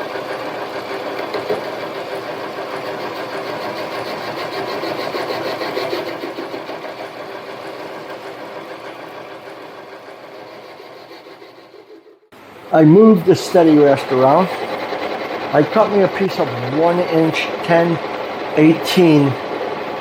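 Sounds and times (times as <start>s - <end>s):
machine tool running: 0.0s - 20.0s.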